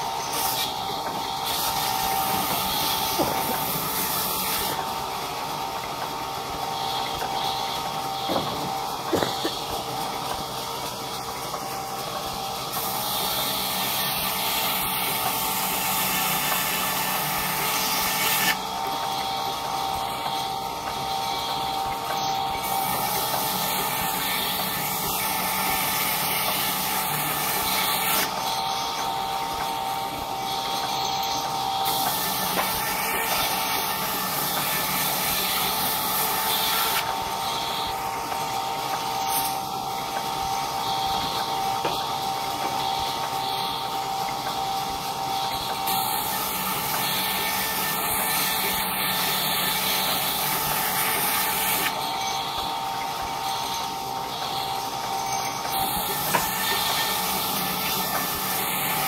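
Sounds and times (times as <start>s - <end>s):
power saw whining: 0.0s - 59.0s
saw cutting wooden plank: 0.0s - 59.0s.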